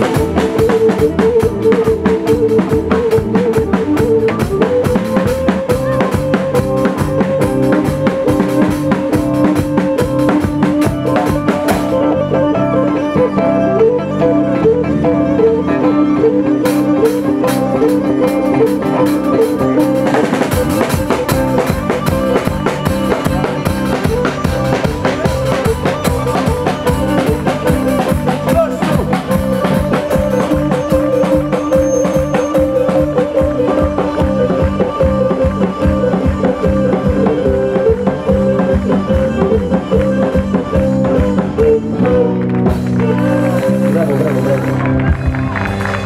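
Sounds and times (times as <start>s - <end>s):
bass drum: 0.0s - 12.5s, 16.8s - 46.0s
drum kit beat: 0.0s - 13.6s, 16.6s - 46.0s
bowed-string melody: 0.0s - 45.1s.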